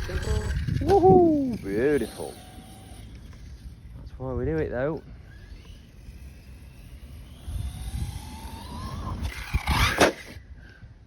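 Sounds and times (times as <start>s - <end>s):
electric motor whining: 0.0s - 10.5s.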